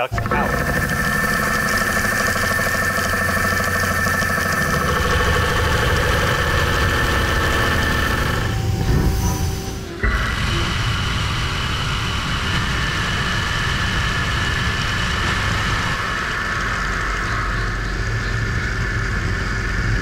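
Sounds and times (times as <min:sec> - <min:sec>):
lathe machining metal: 0:00.0 - 0:20.0.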